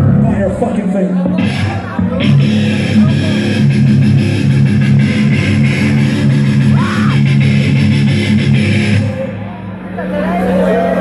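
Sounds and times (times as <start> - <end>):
bass chords: 0.0 - 11.0
distorted electric guitar chords: 1.2 - 11.0.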